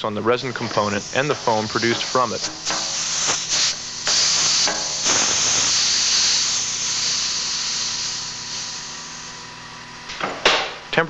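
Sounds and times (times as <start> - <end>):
pressurized gas hissing: 0.0 - 11.0.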